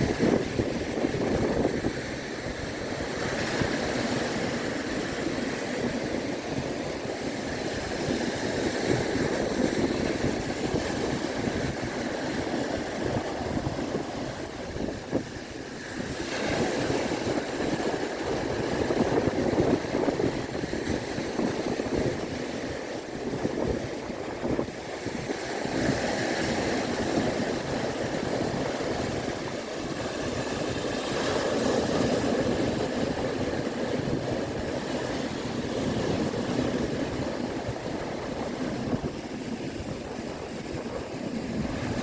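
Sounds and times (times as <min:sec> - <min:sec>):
sea waves washing onto shore: 0:00.0 - 0:42.0.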